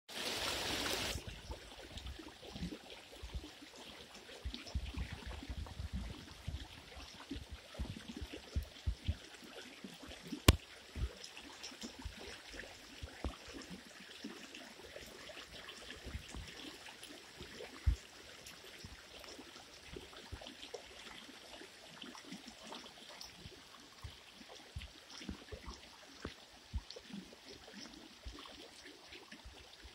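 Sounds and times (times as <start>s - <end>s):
water flowing with gurgles: 0.1s - 29.9s.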